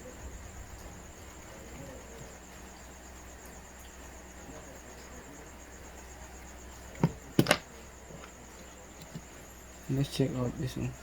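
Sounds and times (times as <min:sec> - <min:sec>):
high-pitched pulsing whine: 0:00.0 - 0:11.0
low electrical hum: 0:00.0 - 0:11.0.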